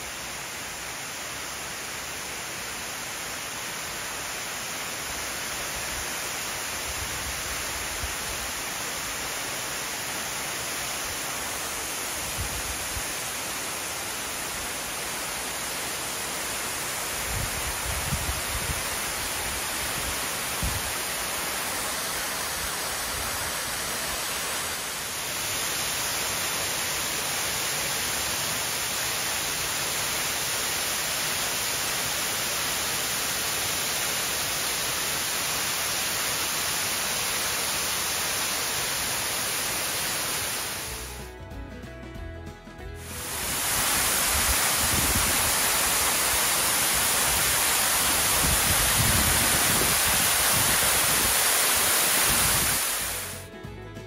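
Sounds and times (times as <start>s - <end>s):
waterfall splashing into pool: 0.0s - 41.1s, 43.1s - 53.4s.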